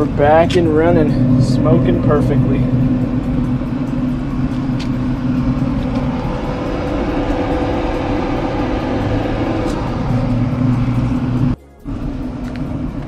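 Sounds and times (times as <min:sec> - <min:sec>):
low rumble: 0:00.0 - 0:13.0
smoker combustion fan humming: 0:00.0 - 0:13.0.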